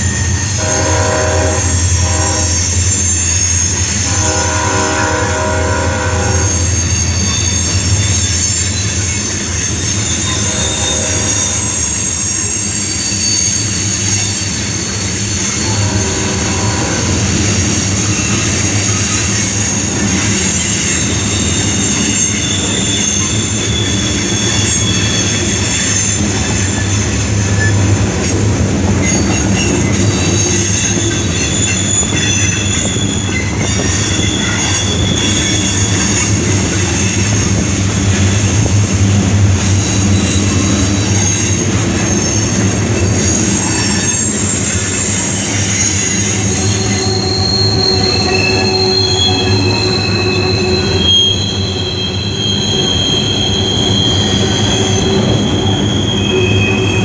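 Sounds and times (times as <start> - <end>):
train wheels rolling on rails: 0.0 - 57.0
train wheels squealing: 0.0 - 57.0.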